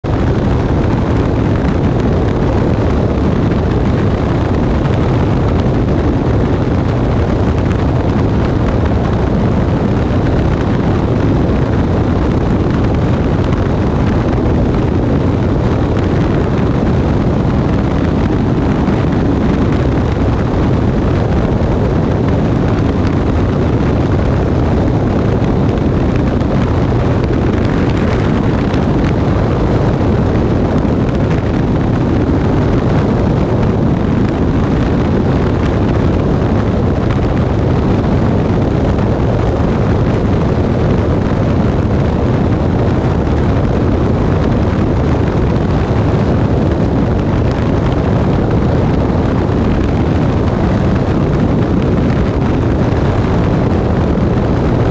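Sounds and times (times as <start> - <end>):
airplane engine and propeller drone: 0.0 - 54.9
wind rushing on microphone: 0.0 - 54.9.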